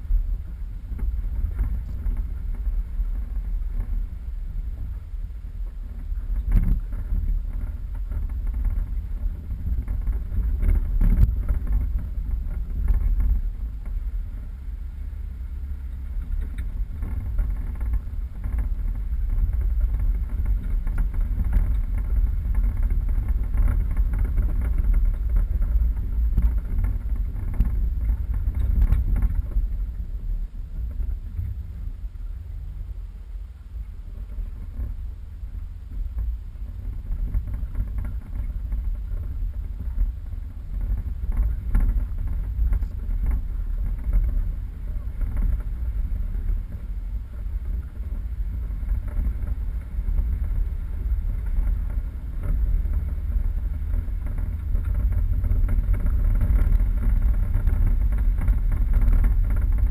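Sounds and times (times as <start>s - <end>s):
vehicle driving off road rumble: 0.0s - 59.9s.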